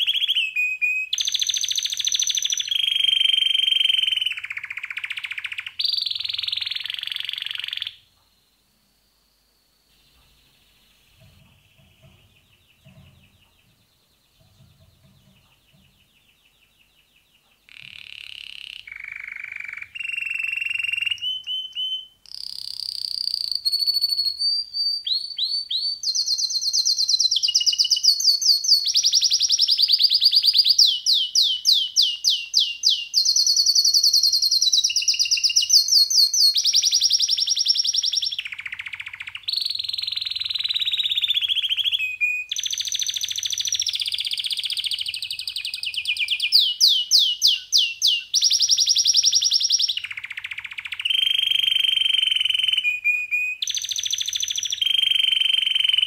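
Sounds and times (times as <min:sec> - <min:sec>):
canary singing trills: 0:00.0 - 0:08.2, 0:09.9 - 0:56.0.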